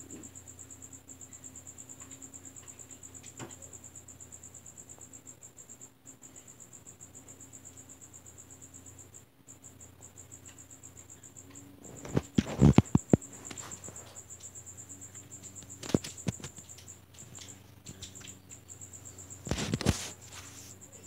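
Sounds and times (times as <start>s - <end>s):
insect chirping trill: 0.0s - 21.0s.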